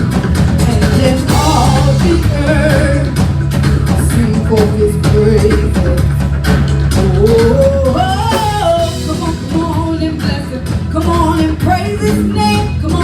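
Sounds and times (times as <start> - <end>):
lead singer vocals: 0.0 - 13.0
live band playing: 0.0 - 13.0.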